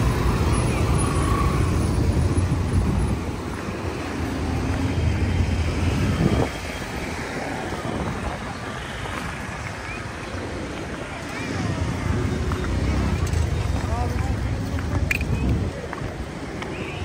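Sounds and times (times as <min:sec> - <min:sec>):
traffic noise: 0:00.0 - 0:17.0
vehicle engine rumbling: 0:00.0 - 0:17.0
faint voices: 0:02.5 - 0:17.0.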